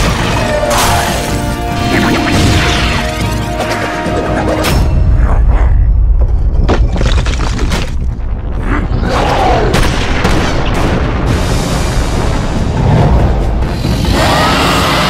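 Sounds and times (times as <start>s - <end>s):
dramatic background music: 0.0s - 7.0s, 8.1s - 15.0s.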